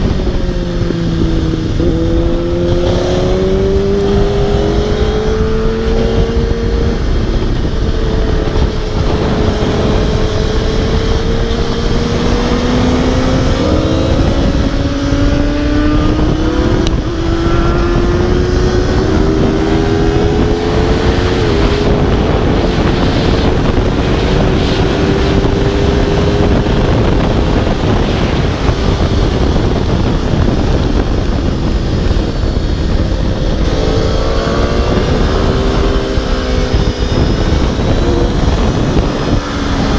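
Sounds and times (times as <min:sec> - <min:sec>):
motorcycle engine at speed: 0:00.0 - 0:39.9
wind rushing on microphone: 0:00.0 - 0:39.9.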